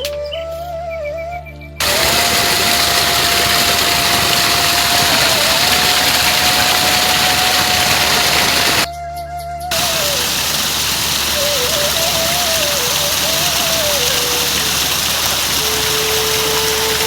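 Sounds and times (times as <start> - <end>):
heavy rain hiss: 1.8 - 8.9, 9.7 - 17.0.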